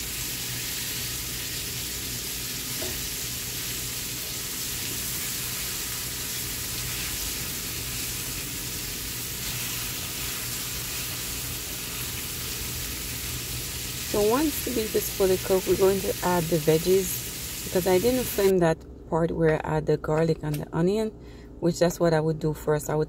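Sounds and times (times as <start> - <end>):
meat sizzling in a skillet: 0.0 - 18.5.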